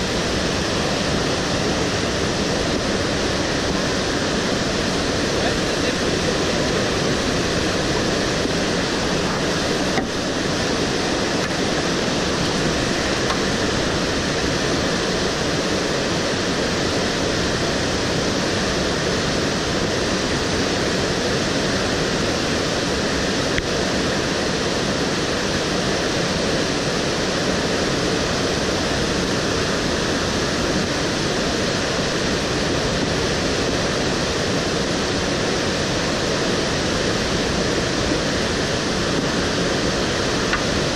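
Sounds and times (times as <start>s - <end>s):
river rapids rushing: 0.0s - 40.9s.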